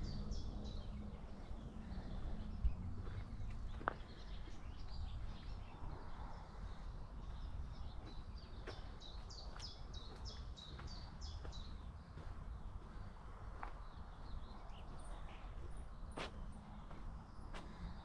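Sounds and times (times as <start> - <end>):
constant low rumble: 0.0 - 18.0
songbird singing: 0.0 - 18.0.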